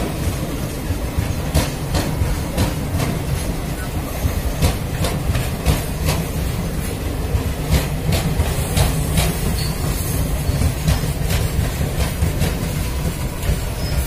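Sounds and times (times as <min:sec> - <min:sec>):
train coaches rumbling: 0:00.0 - 0:14.0
wheels clicking over rail joints: 0:00.0 - 0:14.0.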